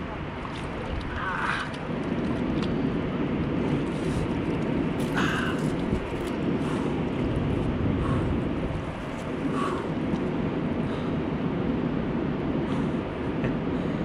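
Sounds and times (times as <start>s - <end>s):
water lapping at shoreline: 0.0s - 13.6s
wind rumble on microphone: 0.0s - 14.0s.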